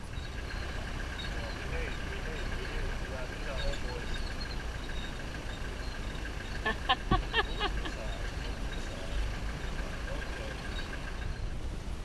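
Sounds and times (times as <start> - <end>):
short pitched calls: 0.0 - 11.4
vehicle engine idling: 0.0 - 12.0.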